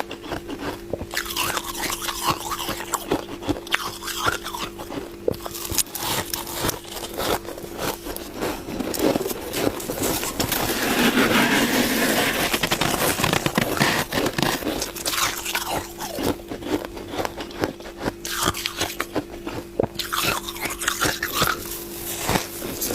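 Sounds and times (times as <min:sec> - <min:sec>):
chewing crunchy frost: 0:00.0 - 0:22.9.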